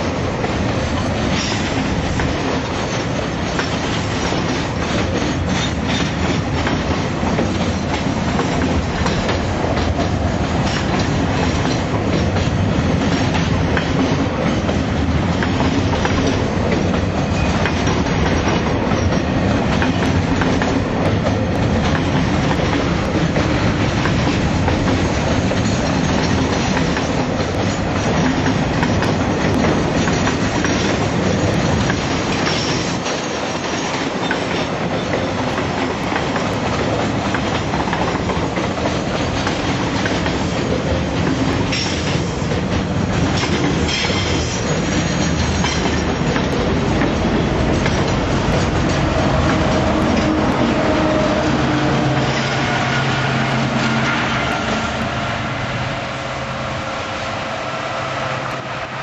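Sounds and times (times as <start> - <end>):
freight train wheels clattering: 0.0 - 55.3.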